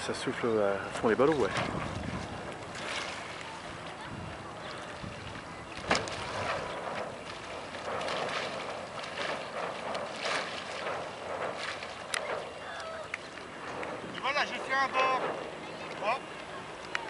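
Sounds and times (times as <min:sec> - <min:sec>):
water lapping: 0:00.0 - 0:17.0
wind buffeting microphone: 0:00.0 - 0:17.0.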